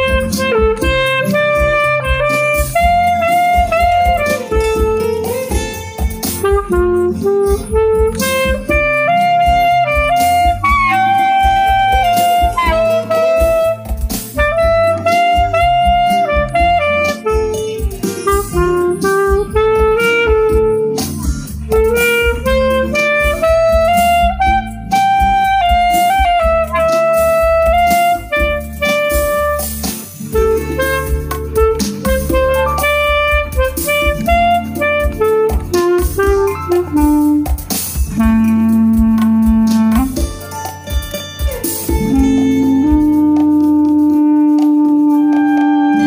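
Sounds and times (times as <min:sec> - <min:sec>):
clarinet playing slow melody: 0:00.0 - 0:46.0
karaoke backing track: 0:00.0 - 0:46.0.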